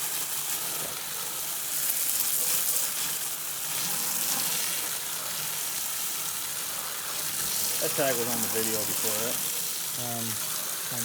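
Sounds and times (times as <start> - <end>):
foaming cleaner fizzing: 0.0 - 11.0.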